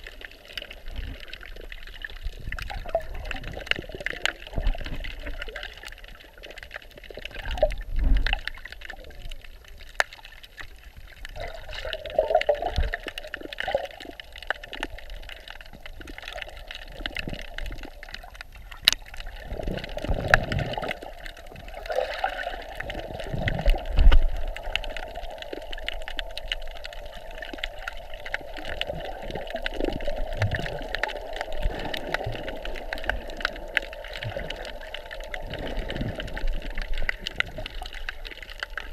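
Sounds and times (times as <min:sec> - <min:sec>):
underwater swishing and gurgling: 0:00.0 - 0:38.9.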